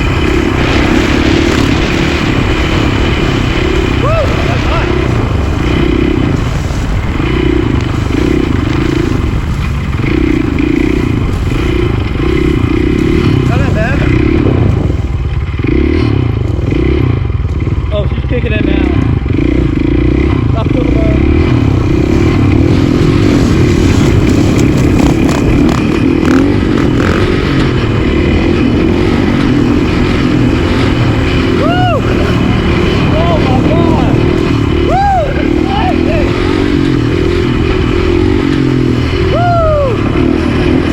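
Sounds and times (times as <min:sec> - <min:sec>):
motorcycle engine revving: 0:00.0 - 0:40.9
steady low rumble: 0:00.0 - 0:40.9.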